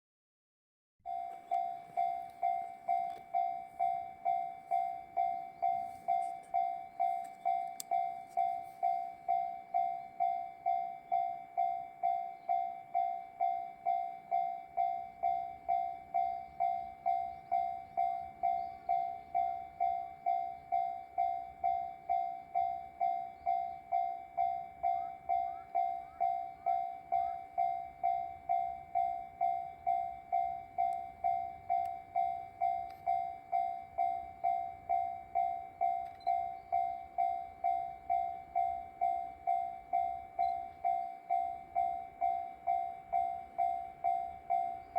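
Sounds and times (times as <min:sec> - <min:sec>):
level crossing warning bell: 0:01.0 - 0:44.9.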